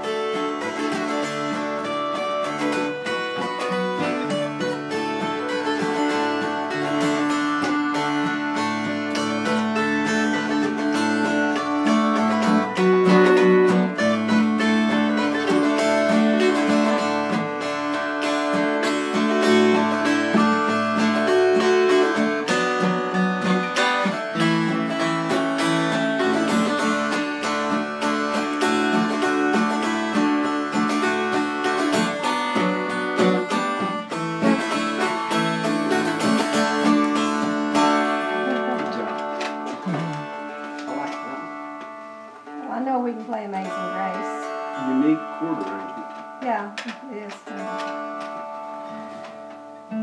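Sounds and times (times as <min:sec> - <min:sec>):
acoustic guitar strumming: 0:00.0 - 0:50.0
instrument playing melody: 0:00.0 - 0:50.0.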